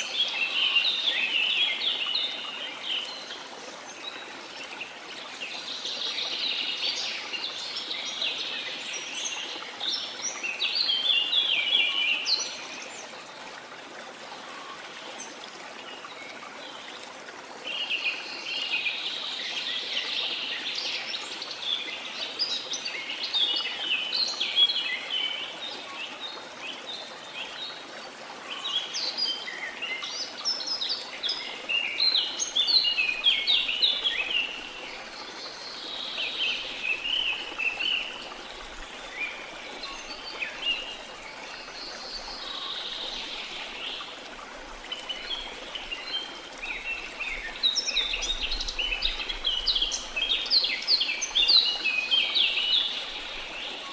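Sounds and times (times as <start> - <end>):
running water: 0.0 - 53.9.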